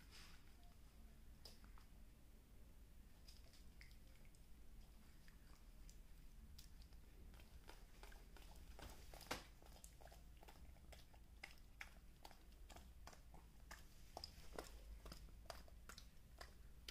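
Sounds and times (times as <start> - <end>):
puppy chewing with wet clicks: 3.2 - 16.9.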